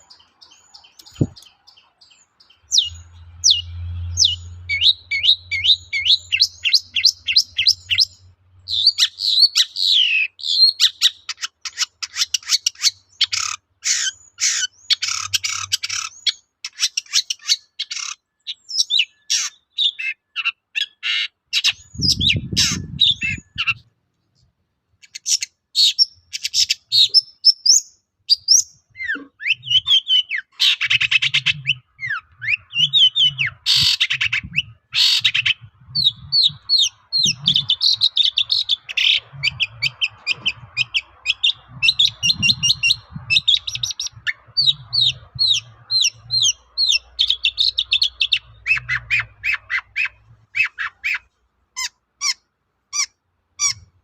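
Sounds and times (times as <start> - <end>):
bird singing chattering song: 0.0 - 23.9, 25.0 - 54.0.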